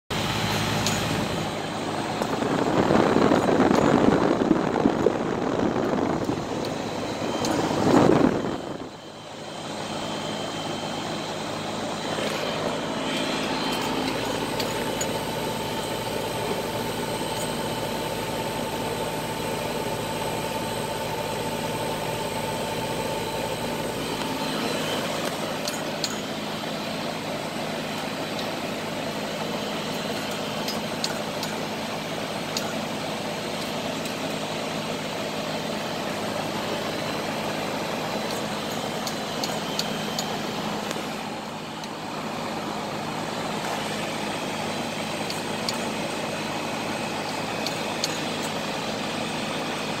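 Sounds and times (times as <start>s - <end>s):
condenser fan rushing: 0.1s - 50.0s
steady low hum: 0.1s - 50.0s.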